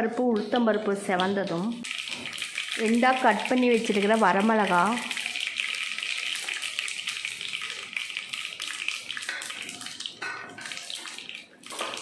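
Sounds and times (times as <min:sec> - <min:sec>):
hot oil sizzling and crackling: 0:01.0 - 0:12.0.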